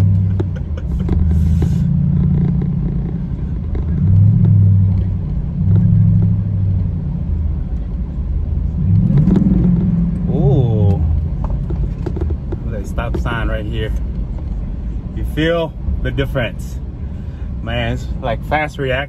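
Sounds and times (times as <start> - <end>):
car engine accelerating: 0.0 - 19.0
road rumble: 0.0 - 19.0.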